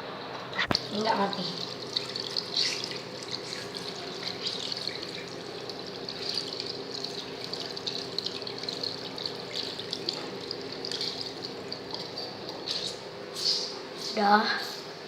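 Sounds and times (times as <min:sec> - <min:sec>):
steady low hum: 0:00.0 - 0:15.0
water running from a tap: 0:00.7 - 0:13.1.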